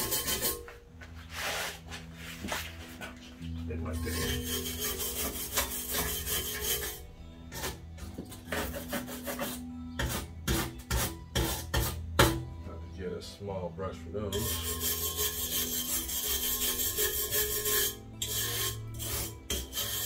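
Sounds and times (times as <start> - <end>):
stiff brush scrubbing rusty metal: 0.0 - 2.5, 3.8 - 7.8, 8.4 - 12.3, 14.3 - 20.0.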